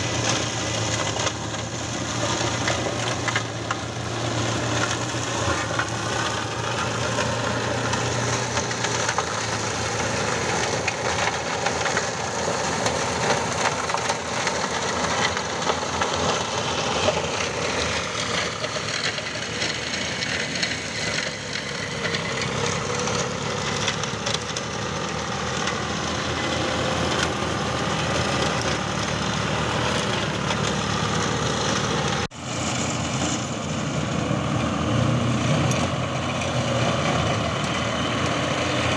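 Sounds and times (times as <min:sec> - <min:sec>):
flail shredder chopping branches: 0:00.0 - 0:38.9
tractor engine running under load: 0:00.0 - 0:38.9.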